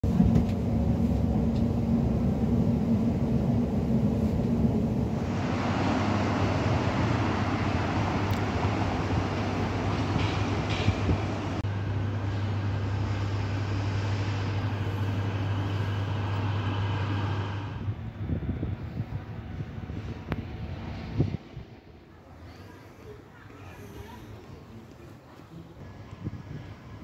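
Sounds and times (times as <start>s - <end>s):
low hum: 0.0s - 22.6s
train rumbling: 0.0s - 25.0s.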